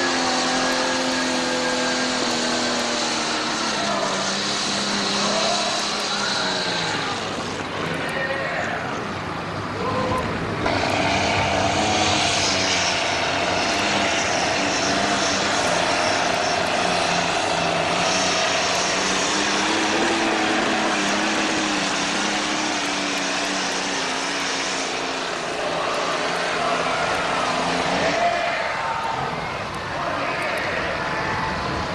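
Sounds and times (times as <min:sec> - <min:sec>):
pulling tractor engine roaring: 0:00.0 - 0:31.9.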